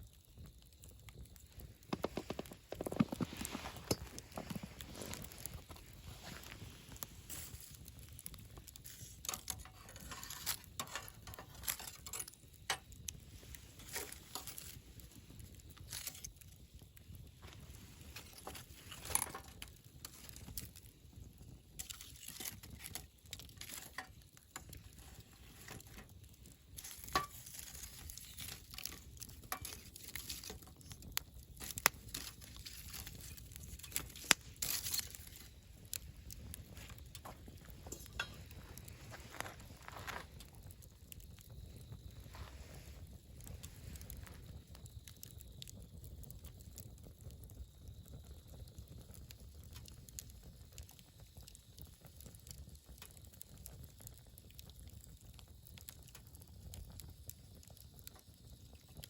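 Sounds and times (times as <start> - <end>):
campfire crackling: 0.0 - 59.0
sharp fire pops: 0.0 - 59.0.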